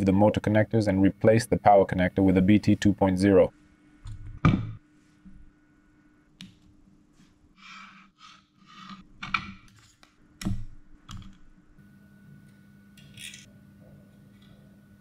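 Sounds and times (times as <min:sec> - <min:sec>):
faint steady hum: 0:00.0 - 0:08.1, 0:08.9 - 0:15.0.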